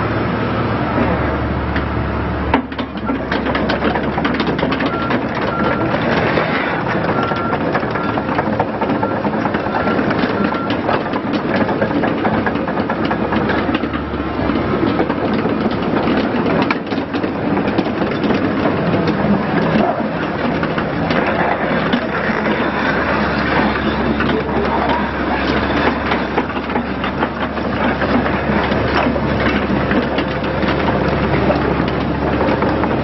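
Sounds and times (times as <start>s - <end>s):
diesel engine running: 0.0s - 33.0s
clatter of track links: 2.5s - 33.0s.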